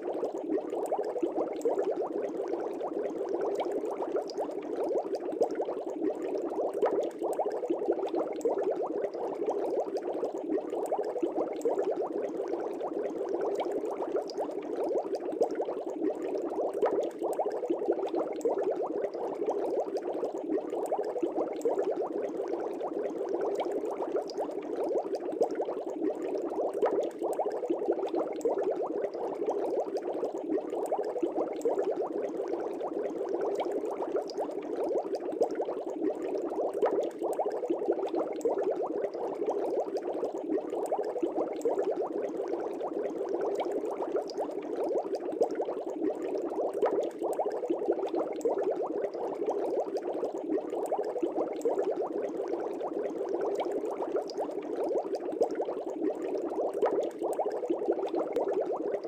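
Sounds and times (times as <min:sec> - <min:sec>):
fish tank bubbling: 0:00.0 - 0:59.0.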